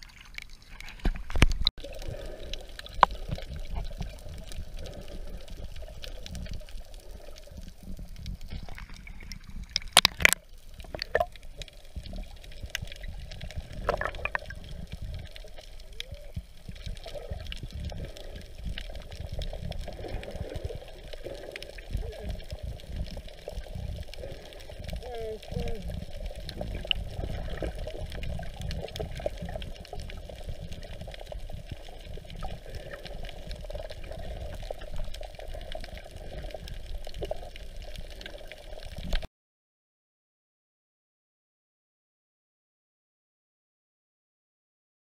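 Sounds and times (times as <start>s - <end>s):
muffled underwater rumble: 0.8s - 39.3s.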